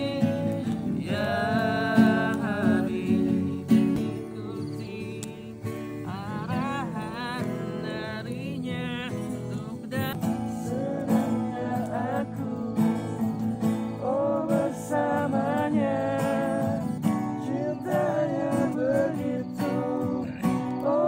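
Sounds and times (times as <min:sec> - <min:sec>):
person singing with vibrato: 0:00.0 - 0:13.3, 0:13.9 - 0:21.0
acoustic guitar strumming: 0:00.0 - 0:21.0.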